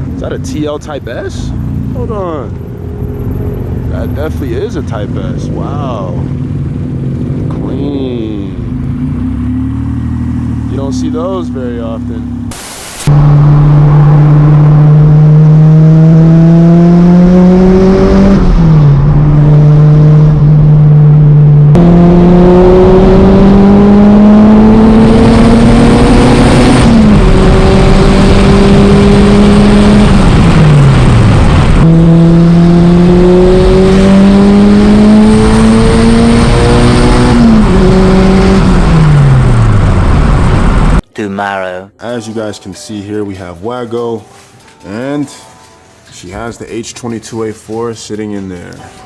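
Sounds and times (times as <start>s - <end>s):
car engine accelerating hard: 0.0s - 41.0s.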